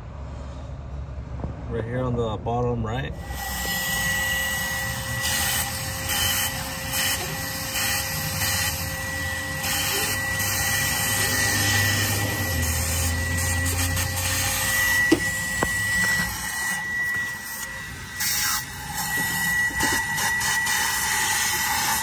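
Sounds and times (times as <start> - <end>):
shop vacuum running: 3.1 - 22.0.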